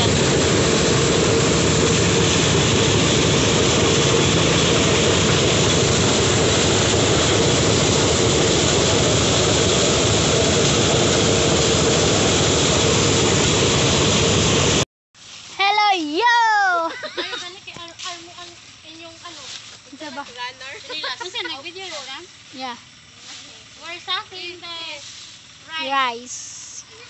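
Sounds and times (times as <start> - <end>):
harvesting machine engine drone: 0.0 - 15.5, 16.1 - 27.0.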